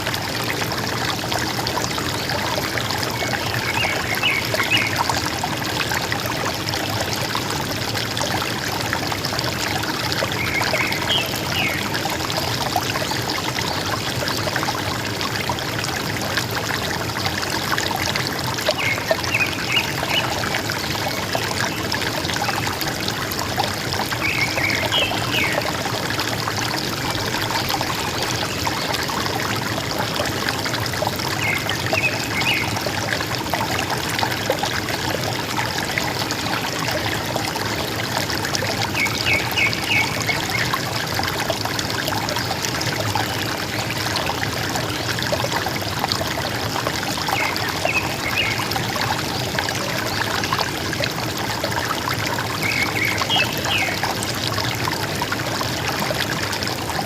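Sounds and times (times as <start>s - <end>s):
river water gurgling: 0.0s - 57.0s.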